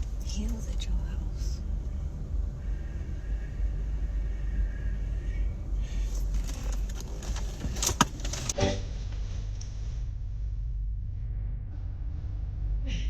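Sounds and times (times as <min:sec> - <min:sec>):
car road rumble: 0:00.0 - 0:11.2.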